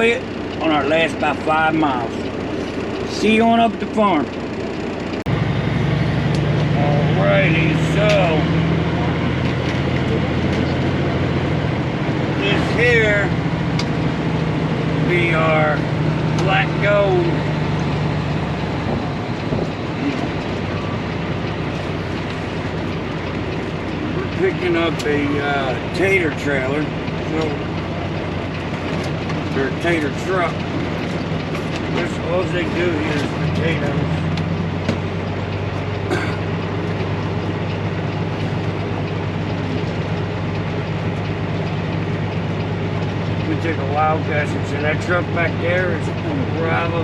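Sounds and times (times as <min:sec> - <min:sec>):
road noise: 0:00.0 - 0:47.0
truck engine running: 0:00.0 - 0:47.0.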